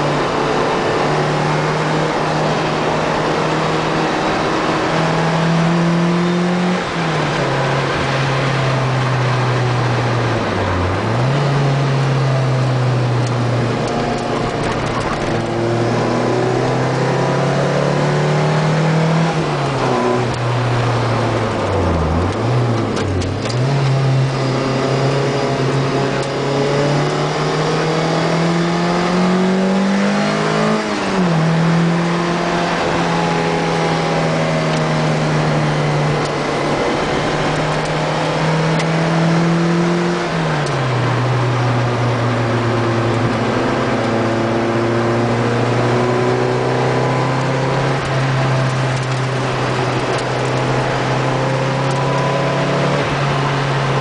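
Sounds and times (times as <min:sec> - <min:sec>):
car engine at racing speed: 0:00.0 - 0:54.0.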